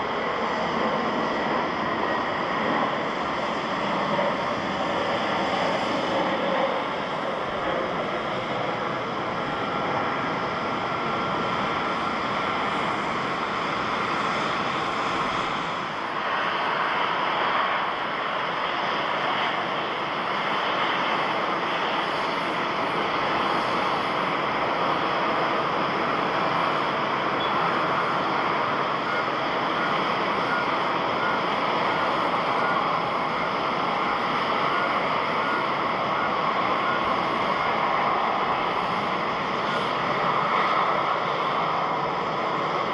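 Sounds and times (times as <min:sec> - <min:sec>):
jet engines roaring with whine: 0:00.0 - 0:42.9.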